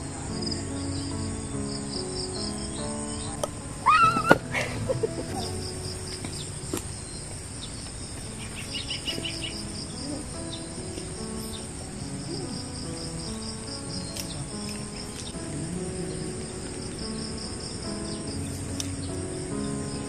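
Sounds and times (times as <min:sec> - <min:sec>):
insects chirring: 0:00.0 - 0:20.0
soft background music: 0:00.0 - 0:20.0.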